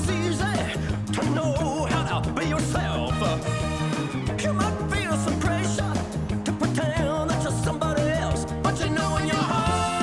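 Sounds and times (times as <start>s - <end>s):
upbeat pop song with vocals: 0.0s - 10.0s.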